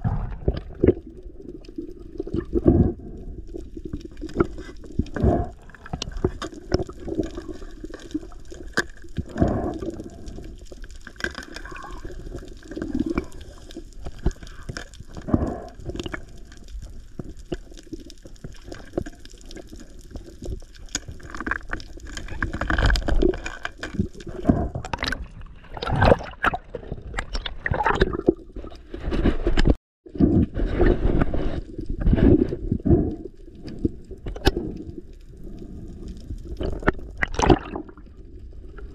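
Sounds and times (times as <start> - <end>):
water swishing and gurgling underwater: 0.0 - 38.9.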